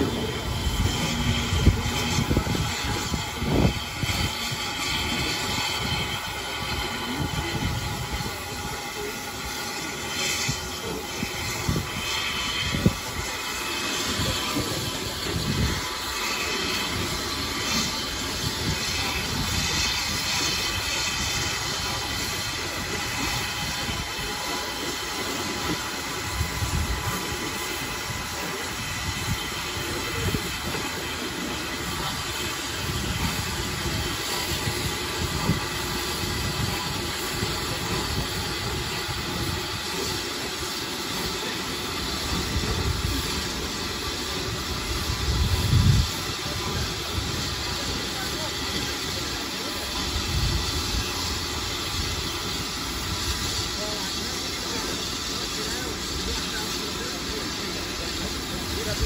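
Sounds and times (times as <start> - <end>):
steam hissing: 0.0 - 59.0
wheel and rail noise: 0.0 - 59.0.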